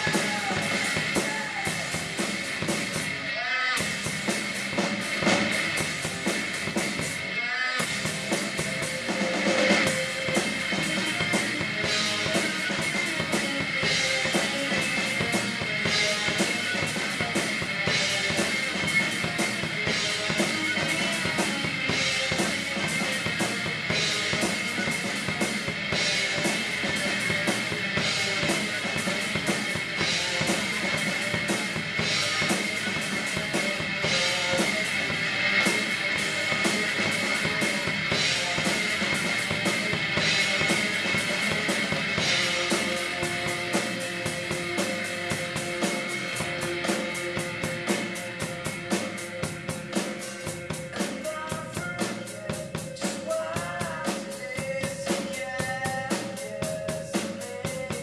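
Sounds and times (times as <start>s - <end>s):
drum kit rock beat: 0.0s - 58.0s.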